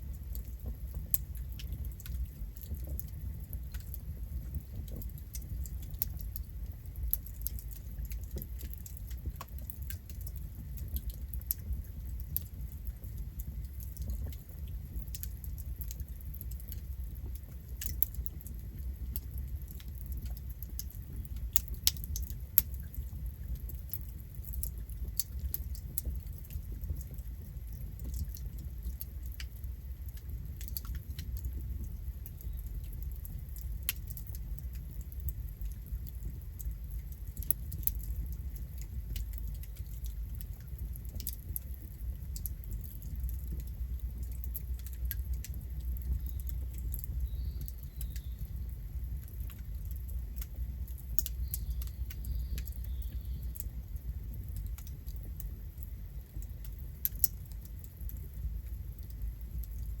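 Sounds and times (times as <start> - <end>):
burning wood crackling: 0.0 - 60.0
low fire rumble: 0.0 - 60.0.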